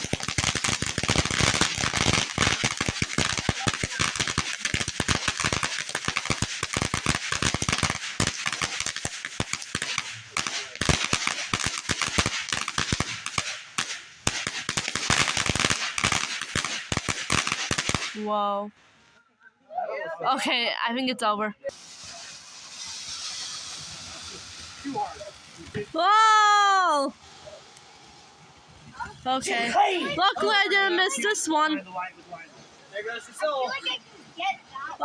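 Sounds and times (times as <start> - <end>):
fireworks crackling: 0.0 - 19.1, 20.4 - 35.0.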